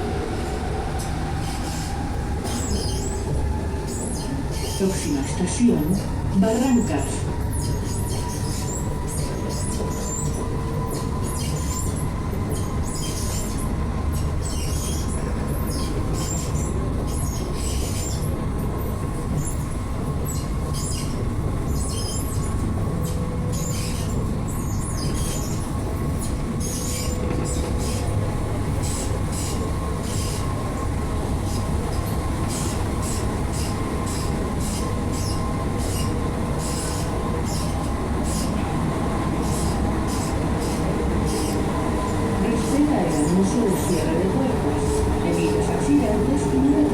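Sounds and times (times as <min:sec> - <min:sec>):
metro car low rumble: 0:00.0 - 0:46.9
wheels squealing on rails: 0:00.3 - 0:30.8, 0:31.4 - 0:46.9.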